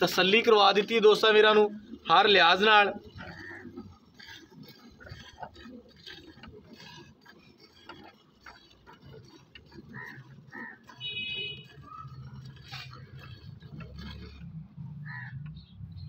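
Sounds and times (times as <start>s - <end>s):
milk squirting into metal bucket: 0.0s - 14.6s.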